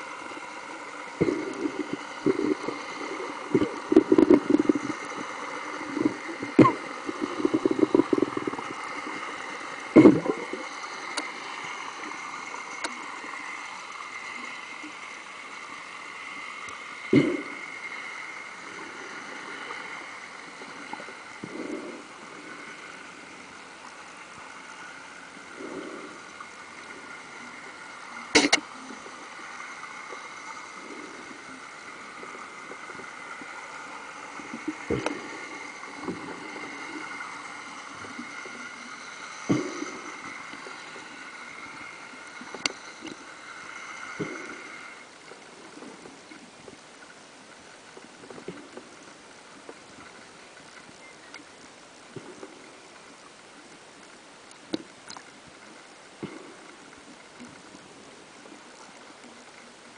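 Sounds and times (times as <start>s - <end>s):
underwater hiss: 0.0s - 50.9s, 52.0s - 59.9s
faint high hum: 0.0s - 59.9s.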